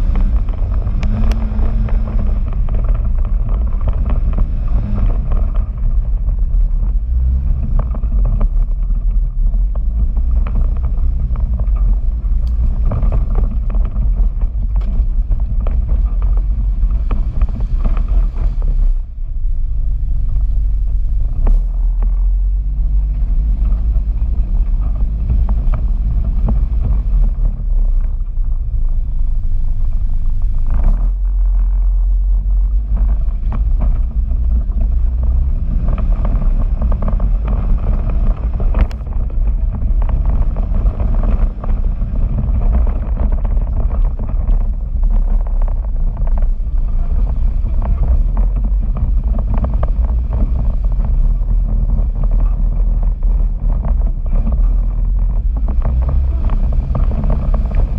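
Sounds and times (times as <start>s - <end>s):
knocks and rattles over rocks: 0.0s - 19.2s, 20.0s - 57.9s
vehicle engine running under load: 0.0s - 57.9s.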